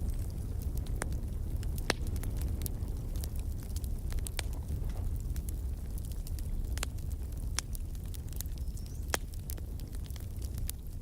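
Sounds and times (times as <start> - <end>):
fire crackles and pops: 0.0 - 11.0
low rumble of flames: 0.0 - 11.0.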